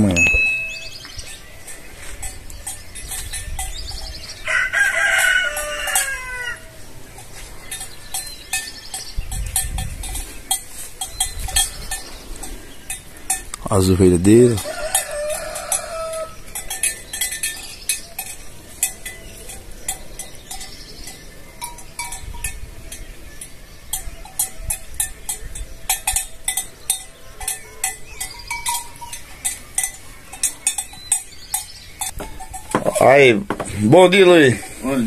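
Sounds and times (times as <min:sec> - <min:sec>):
sheep bells clanking: 0:00.0 - 0:35.0.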